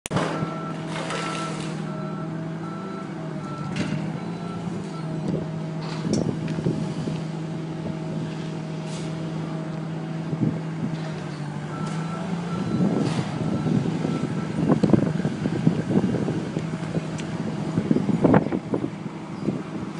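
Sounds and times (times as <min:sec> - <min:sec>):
boom lift humming: 0:00.1 - 0:19.9.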